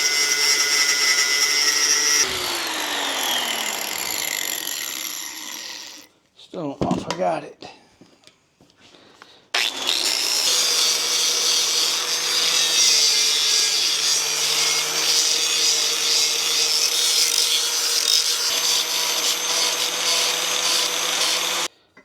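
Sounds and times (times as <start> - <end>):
electric grinder grinding metal: 0.0 - 6.1, 9.6 - 21.7.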